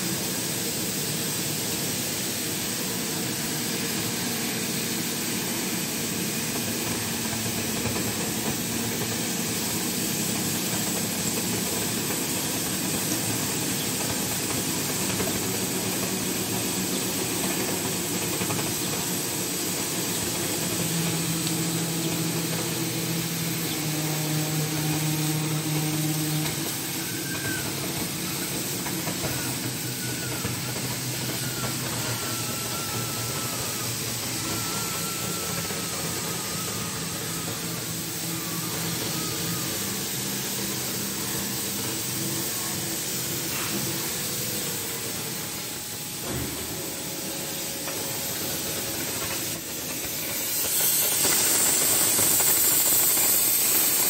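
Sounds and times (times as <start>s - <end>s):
cutting torch hissing: 0.0s - 54.0s
low machine hum: 5.6s - 50.3s.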